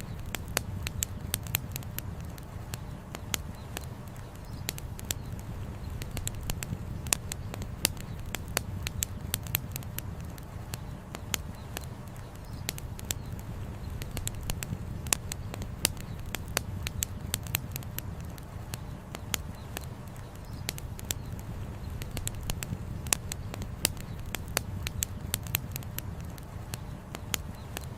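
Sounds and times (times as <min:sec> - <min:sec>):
campfire crackling: 0:00.0 - 0:27.9
firewood popping and snapping: 0:00.0 - 0:27.9.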